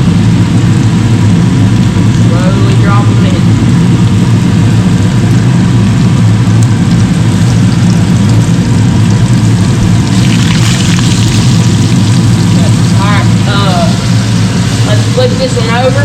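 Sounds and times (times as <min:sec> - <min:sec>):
food sizzling in hot oil: 0:00.0 - 0:16.0
low motor hum: 0:00.0 - 0:16.0.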